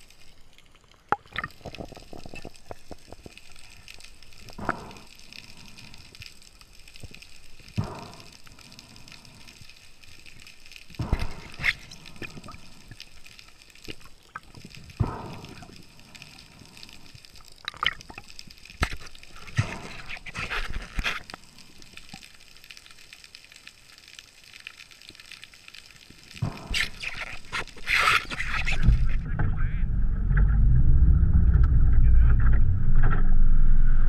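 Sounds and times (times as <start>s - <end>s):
water splashing and gurgling: 0.0s - 29.4s.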